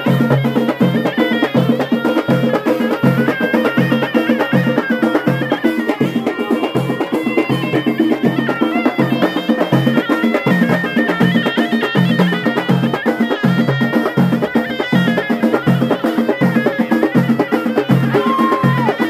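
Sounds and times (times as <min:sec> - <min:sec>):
double-headed drum beating: 0:00.0 - 0:19.0
hand frame drums beating: 0:00.0 - 0:19.0
shawm playing a melody: 0:00.0 - 0:19.0.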